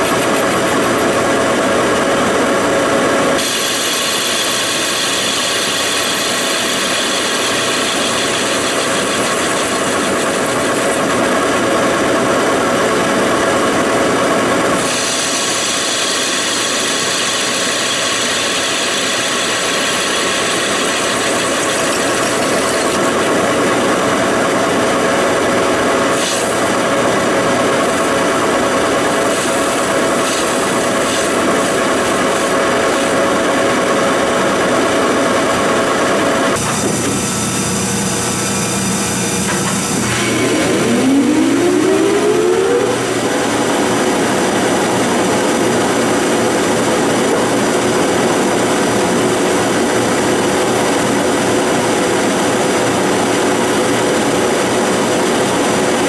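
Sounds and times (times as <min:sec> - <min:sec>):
lathe cutting metal: 0:00.0 - 0:56.0.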